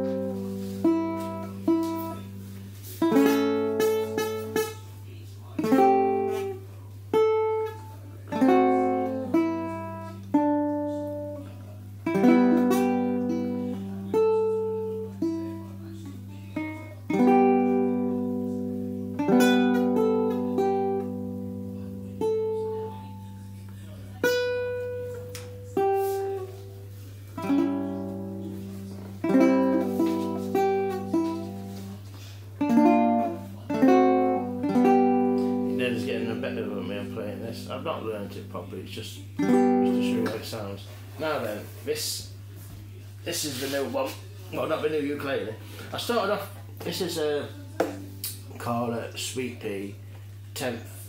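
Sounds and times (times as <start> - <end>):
ukulele plucked notes: 0.0 - 4.9, 5.6 - 40.7, 47.7 - 48.6.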